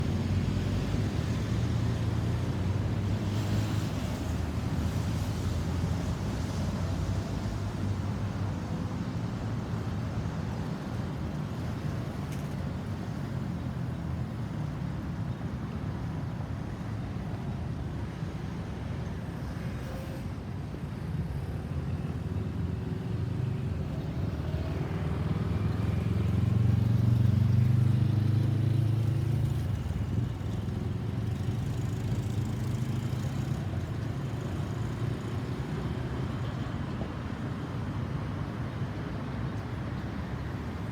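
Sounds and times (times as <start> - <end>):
road traffic rumble: 0.0 - 40.9.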